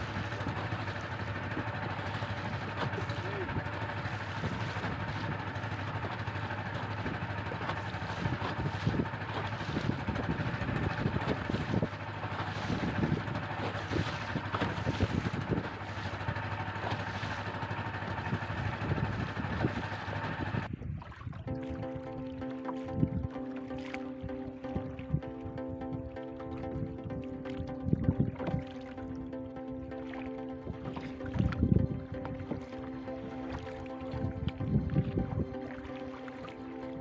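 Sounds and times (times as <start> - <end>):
boat engine humming: 0.0 - 37.0
water splashes: 0.0 - 37.0.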